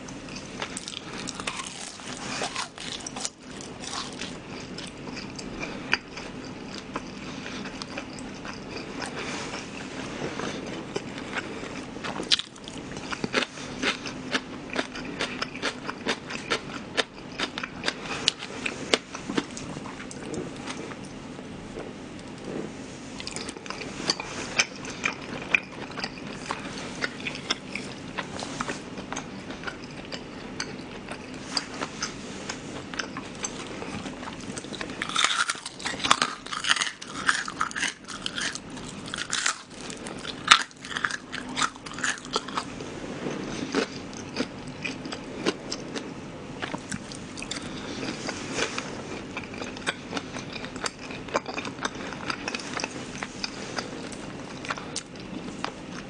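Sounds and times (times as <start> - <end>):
chewing with soft crunches: 0.0 - 56.0.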